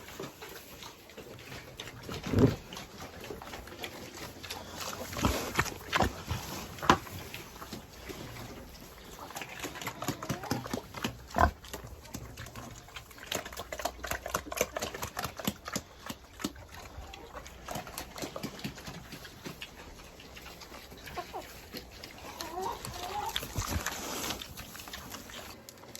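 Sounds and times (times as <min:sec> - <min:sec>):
pigs grunting: 0:00.0 - 0:25.6.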